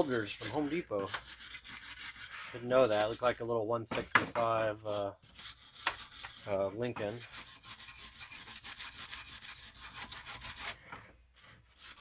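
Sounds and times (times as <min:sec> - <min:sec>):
hand tool rasping on metal: 0:00.0 - 0:03.4, 0:04.4 - 0:12.0.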